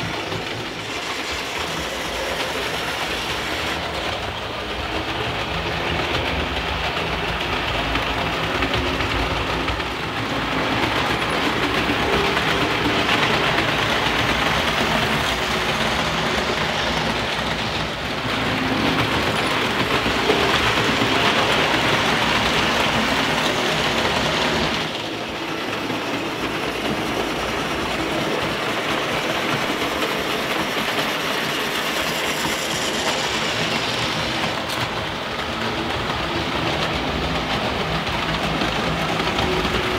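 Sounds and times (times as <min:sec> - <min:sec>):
model train wheels clattering: 0:00.0 - 0:39.9.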